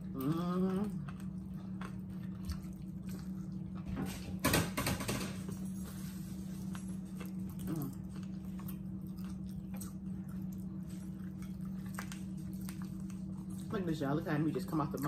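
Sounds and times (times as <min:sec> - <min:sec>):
people chewing: 0:00.0 - 0:04.1, 0:05.5 - 0:15.0
low hum: 0:00.0 - 0:15.0.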